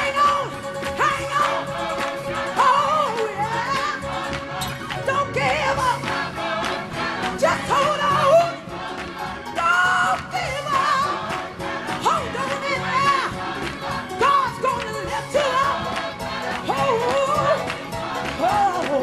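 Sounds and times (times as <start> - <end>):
gospel choir singing: 0.0 - 19.0
live band playing: 0.0 - 19.0.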